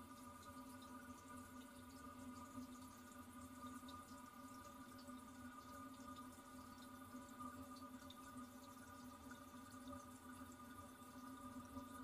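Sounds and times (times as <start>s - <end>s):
toilet cistern refilling: 0.0s - 12.0s
water drips: 0.0s - 12.0s.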